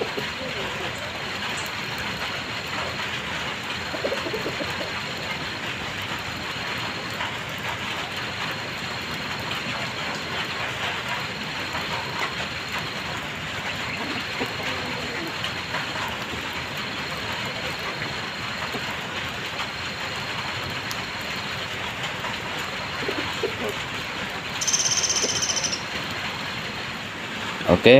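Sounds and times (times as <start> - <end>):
light drizzle patter: 0.0 - 27.9.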